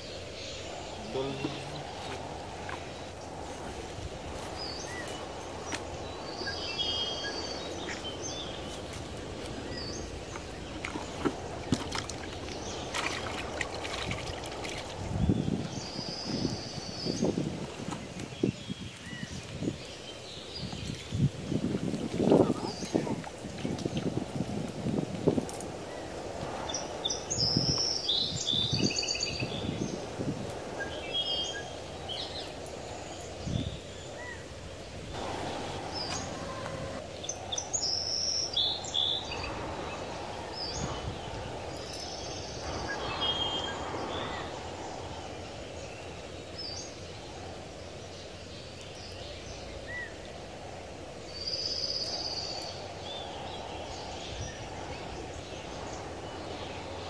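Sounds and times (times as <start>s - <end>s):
low outdoor hiss: 0.0s - 57.0s
small birds chirping: 0.0s - 57.0s.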